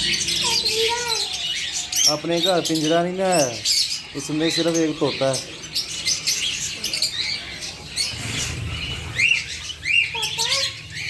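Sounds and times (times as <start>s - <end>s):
caged birds chirping and squawking: 0.0s - 11.0s.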